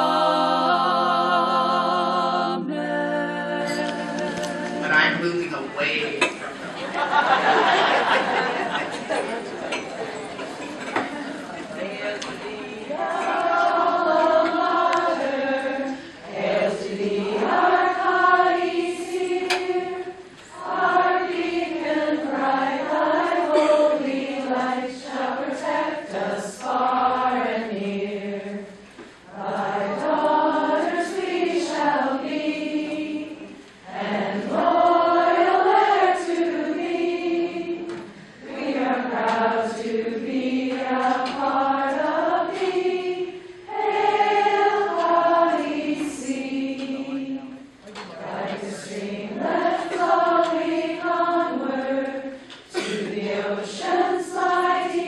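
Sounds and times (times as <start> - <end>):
women singing together: 0.0 - 5.2, 6.8 - 10.0, 10.6 - 55.0.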